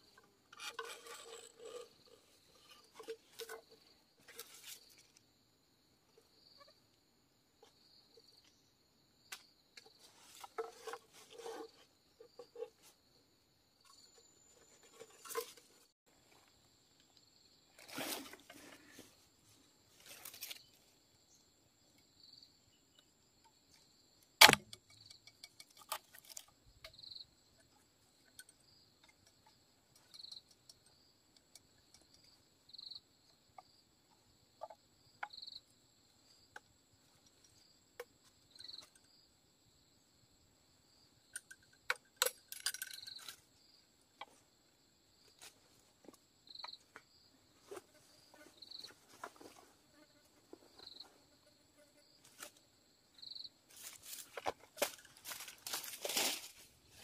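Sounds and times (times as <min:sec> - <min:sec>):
insect chirp: 0:00.0 - 0:57.0.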